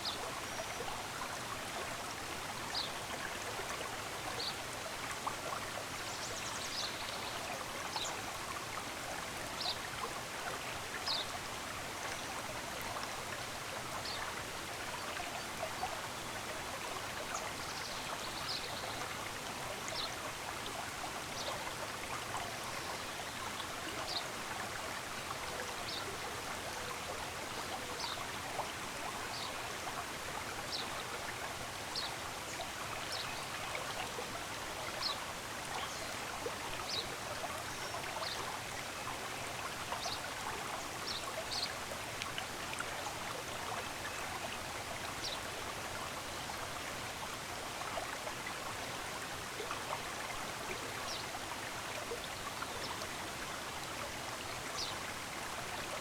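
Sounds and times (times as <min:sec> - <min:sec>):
stream of running water: 0:00.0 - 0:56.0.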